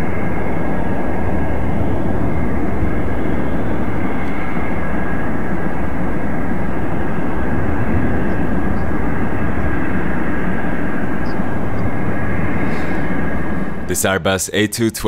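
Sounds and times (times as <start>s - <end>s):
faint high jet whine: 0.0s - 15.0s
jet engines rumbling: 0.0s - 15.0s.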